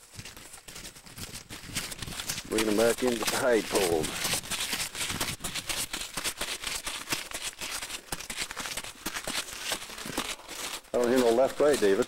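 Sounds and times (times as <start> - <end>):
footsteps on gravel and grass: 0.0 - 12.0.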